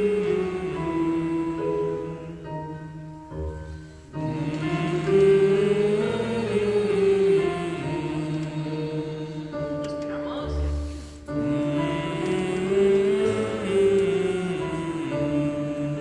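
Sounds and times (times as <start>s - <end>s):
group of voices singing: 0.0s - 16.0s
musical accompaniment: 0.0s - 16.0s.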